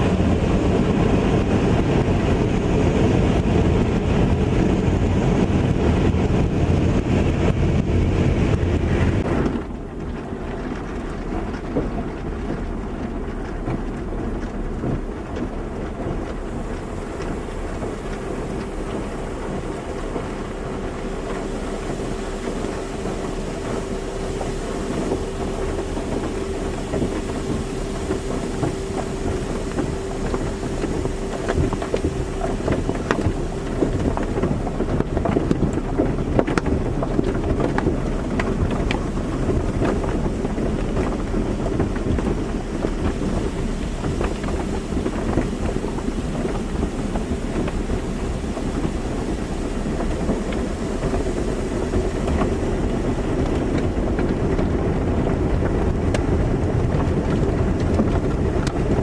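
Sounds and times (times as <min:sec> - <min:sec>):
machine hum: 0:00.0 - 0:59.0
water spraying on car: 0:00.0 - 0:59.0.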